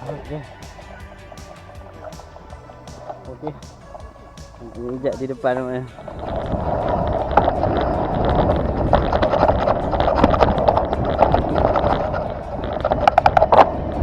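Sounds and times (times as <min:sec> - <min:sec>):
off-road vehicle engine: 0:00.0 - 0:14.0.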